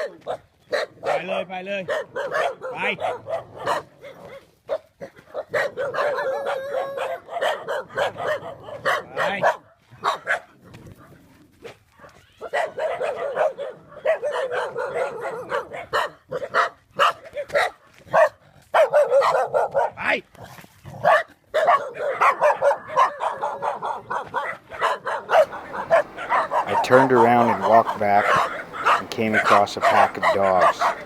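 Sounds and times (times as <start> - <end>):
dogs barking: 0.0 - 10.5, 12.4 - 20.0, 21.0 - 31.0.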